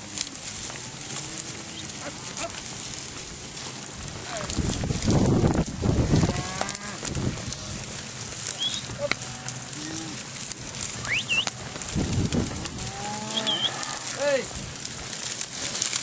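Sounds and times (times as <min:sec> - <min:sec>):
drawn-out low animal call: 0:00.0 - 0:15.2
animals rustling through brush: 0:00.0 - 0:16.0.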